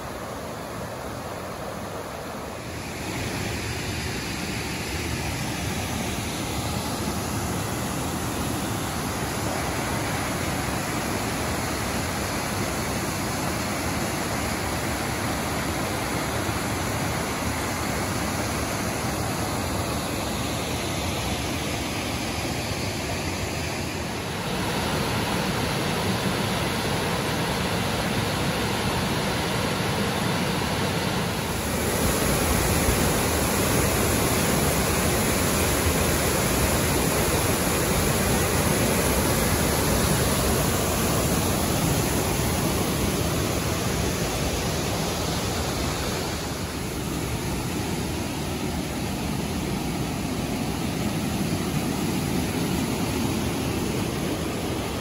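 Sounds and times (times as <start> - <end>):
creek rushing over stones: 0.0 - 55.0.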